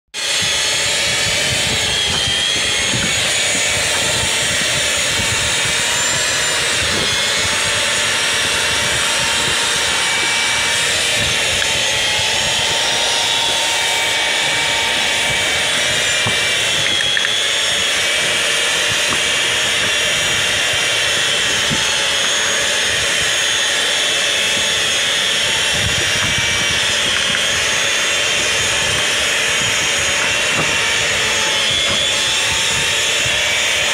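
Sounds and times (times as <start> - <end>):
roof seaming machine whining: 0.2 - 33.9.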